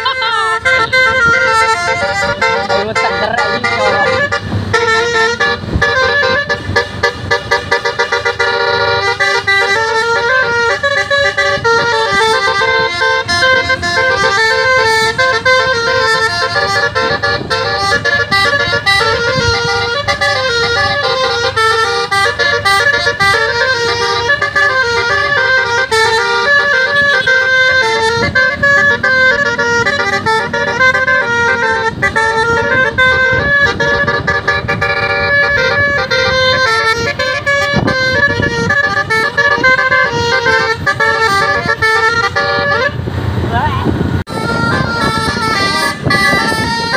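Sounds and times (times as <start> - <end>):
multi-tone air horn melody: 0.0 - 43.1, 43.9 - 46.9.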